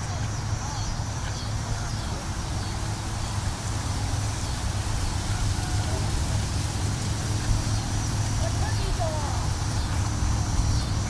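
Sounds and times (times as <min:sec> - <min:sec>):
noisy outdoor wash: 0:00.0 - 0:11.0.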